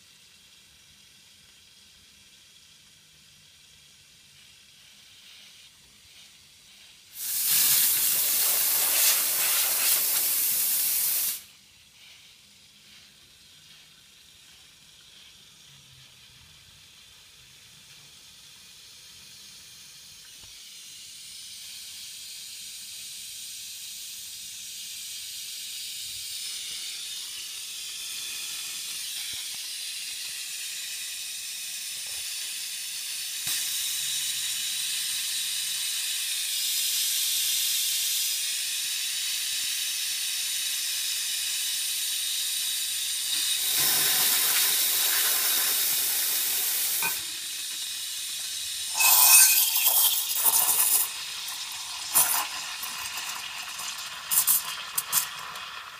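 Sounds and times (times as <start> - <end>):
steam hissing from steam wand: 0.0 - 55.9.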